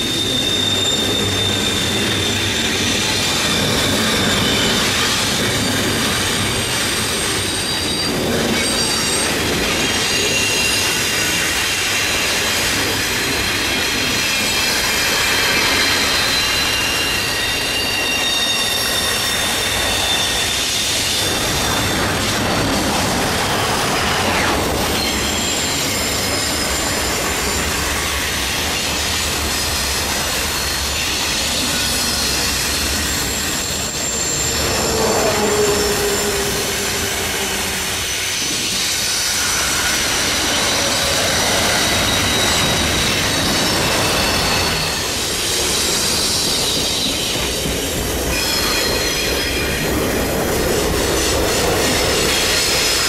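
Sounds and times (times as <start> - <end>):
freight train rumbling past: 0.0 - 53.0
steel wheels squealing: 0.0 - 53.0.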